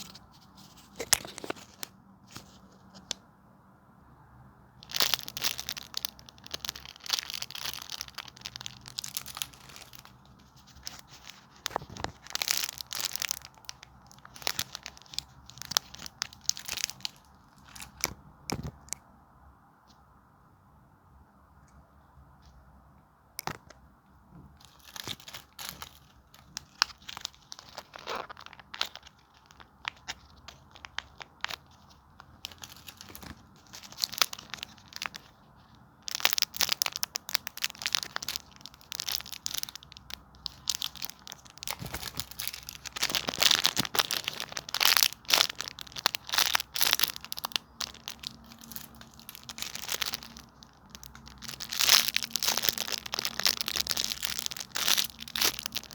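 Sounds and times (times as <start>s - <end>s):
paper squishies crinkling: 0.0s - 3.2s, 4.8s - 18.2s, 24.6s - 55.9s.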